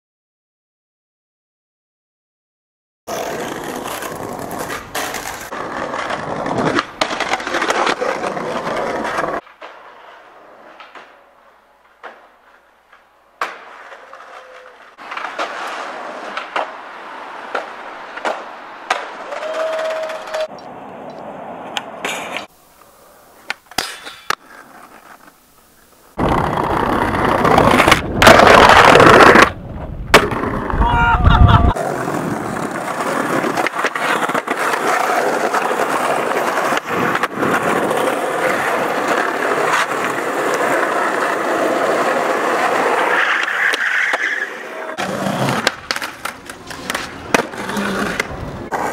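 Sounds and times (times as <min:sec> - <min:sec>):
skateboard clacking on ground: 0:03.1 - 0:25.4, 0:31.7 - 0:48.9
skateboard wheels rolling on concrete: 0:03.1 - 0:48.9.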